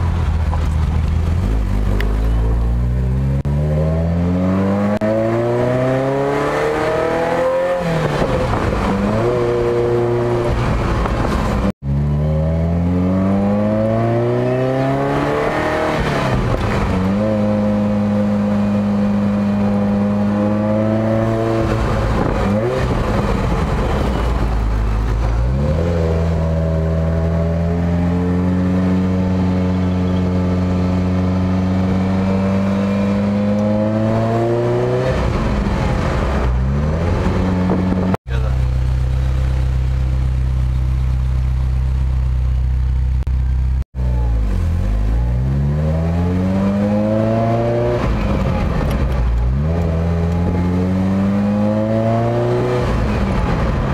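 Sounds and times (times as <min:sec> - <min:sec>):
car engine revving through gears: 0:01.1 - 0:39.6, 0:44.6 - 0:53.9.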